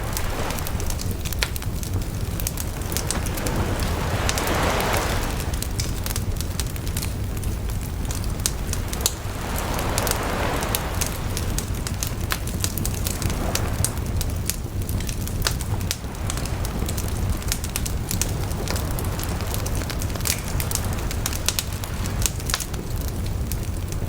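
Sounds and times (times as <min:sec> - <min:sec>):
bonfire crackling and popping: 0:00.0 - 0:24.0
fire low rumble: 0:00.0 - 0:24.0
soft rushing of fire: 0:00.0 - 0:24.0.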